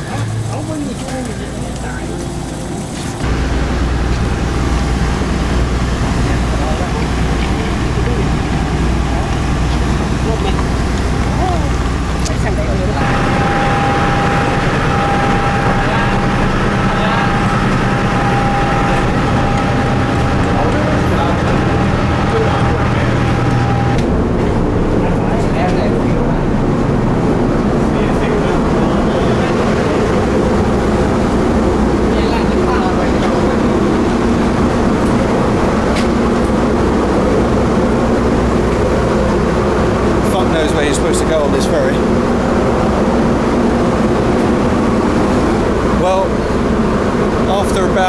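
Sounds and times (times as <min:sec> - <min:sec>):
large engine humming with high whine: 0:00.0 - 0:48.0.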